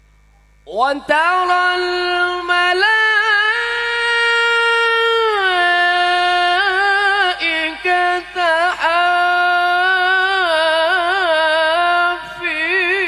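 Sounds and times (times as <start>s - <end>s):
man reciting melodically into microphone: 0.7s - 13.0s.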